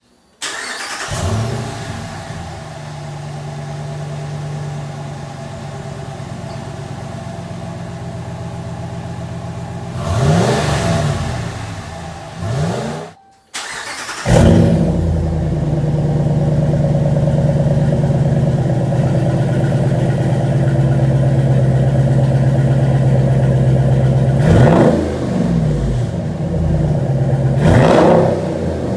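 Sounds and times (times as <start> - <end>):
engine idling with throttle blips: 0.6 - 28.9.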